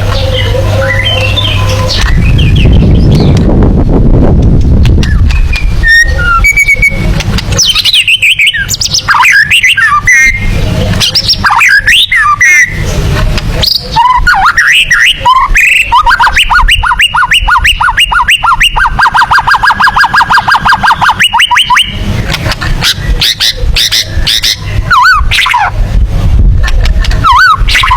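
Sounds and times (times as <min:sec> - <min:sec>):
bird singing whistled phrases: 0:00.1 - 0:03.4, 0:05.0 - 0:12.8, 0:13.6 - 0:22.0, 0:23.2 - 0:25.7, 0:27.2 - 0:27.9.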